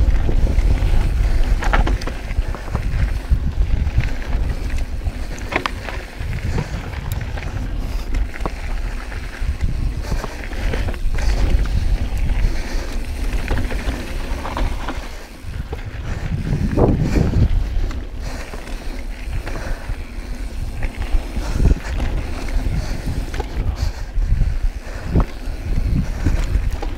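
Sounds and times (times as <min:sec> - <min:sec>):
bike ticks and rattles: 0:00.0 - 0:26.9
wind buffeting microphone: 0:00.0 - 0:26.9.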